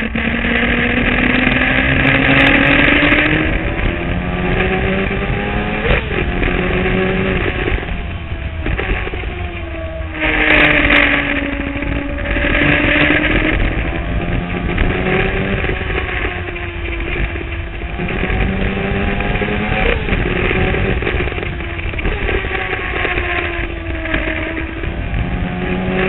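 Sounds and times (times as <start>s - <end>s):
motorcycle engine revving: 0.0s - 26.0s
wind and road noise: 0.0s - 26.0s.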